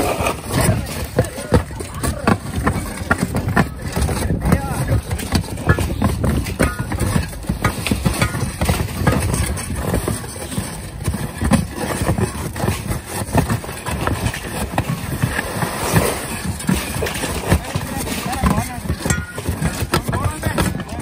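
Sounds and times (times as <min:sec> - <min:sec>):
shingles clattering loose: 0:00.0 - 0:21.0
shovels scraping roof shingles: 0:00.0 - 0:21.0.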